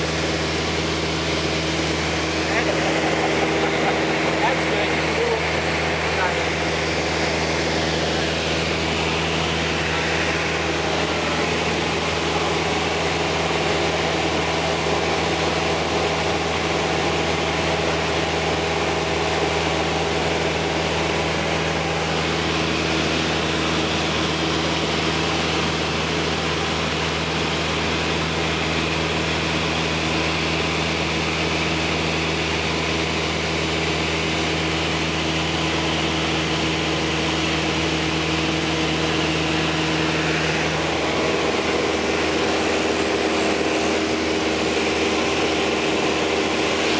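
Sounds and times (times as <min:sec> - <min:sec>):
airplane engine drone in cabin: 0:00.0 - 0:46.9.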